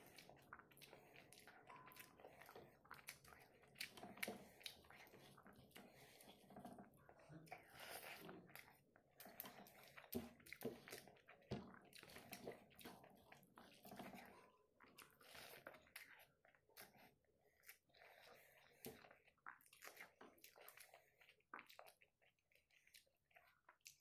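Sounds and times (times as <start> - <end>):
wet chewing smacks and clicks: 0.0 - 24.0.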